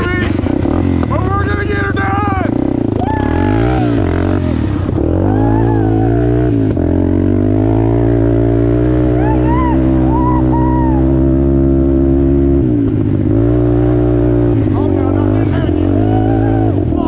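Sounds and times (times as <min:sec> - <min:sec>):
off-road vehicle engine running hard: 0:00.0 - 0:17.0.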